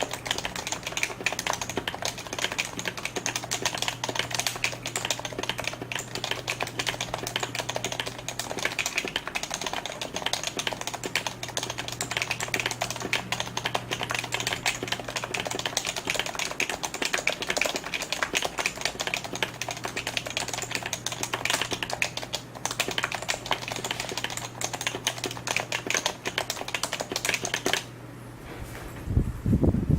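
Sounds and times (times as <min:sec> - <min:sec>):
fast keyboard typing: 0:00.0 - 0:27.9.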